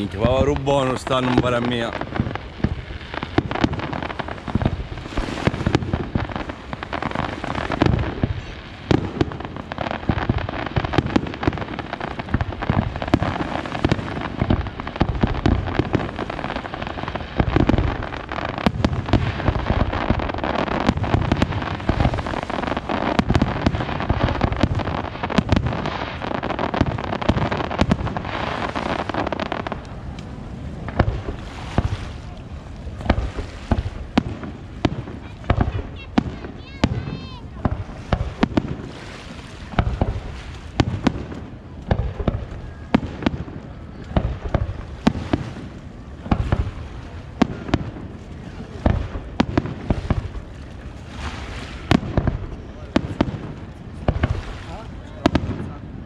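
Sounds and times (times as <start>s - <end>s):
fireworks bursting: 0.0s - 56.0s
fireworks crackling hiss: 0.0s - 56.0s.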